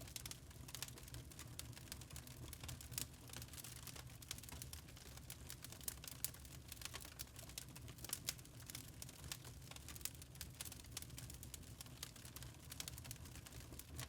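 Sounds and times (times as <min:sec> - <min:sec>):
fire popping and snapping: 0:00.0 - 0:14.0
soft rumble of flames: 0:00.0 - 0:14.0.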